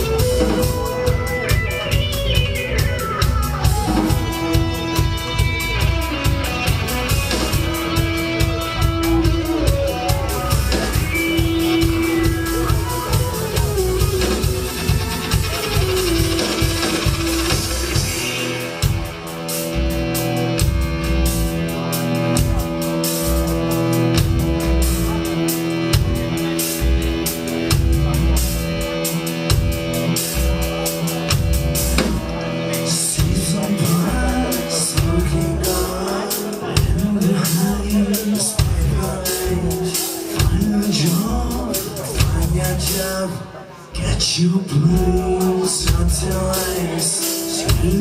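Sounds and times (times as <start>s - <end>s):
live band playing instrumental: 0.0s - 48.0s.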